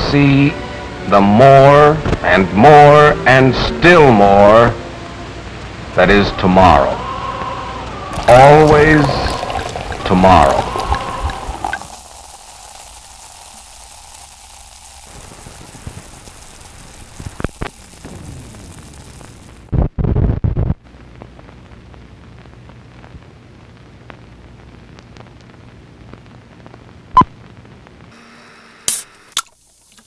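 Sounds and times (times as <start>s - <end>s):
film hiss with crackles: 0.0s - 30.0s.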